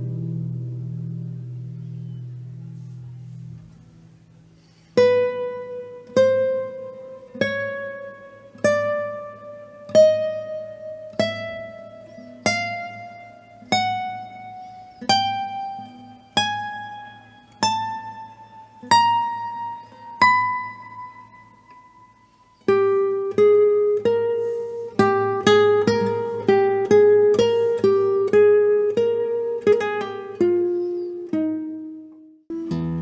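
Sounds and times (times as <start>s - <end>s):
classical guitar single notes: 0.0s - 33.0s.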